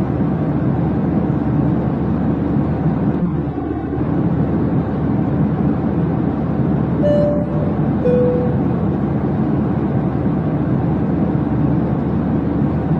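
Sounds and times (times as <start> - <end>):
rumble of vehicle noise: 0.0 - 12.9.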